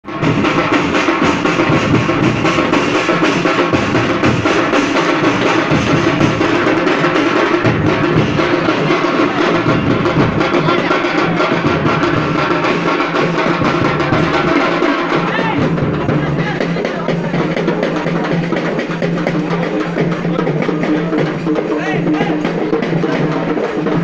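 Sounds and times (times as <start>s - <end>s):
drums beating fast rhythm: 0.0s - 24.0s.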